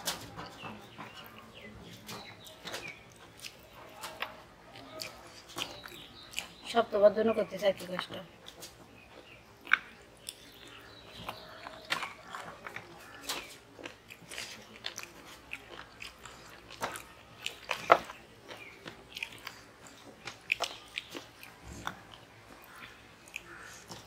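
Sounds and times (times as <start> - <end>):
fingers squishing rice on plates: 0.0 - 24.0
people chewing: 0.0 - 24.0.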